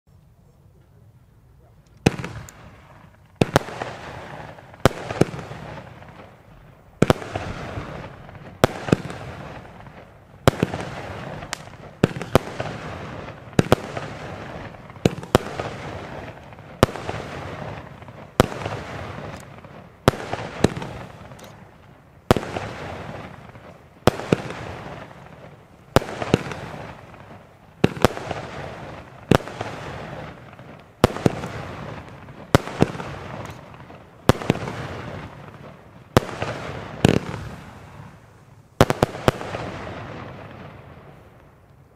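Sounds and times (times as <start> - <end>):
crackling hiss of stars: 0.1 - 41.9
firework bangs: 2.0 - 41.6.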